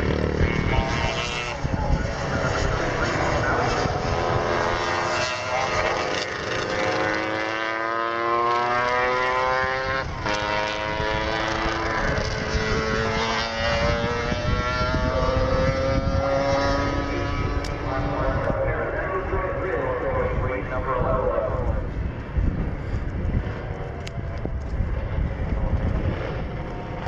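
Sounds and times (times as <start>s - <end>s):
wind buffeting microphone: 0.0s - 8.7s, 9.4s - 27.0s
racing motorcycle engines passing: 0.0s - 27.0s.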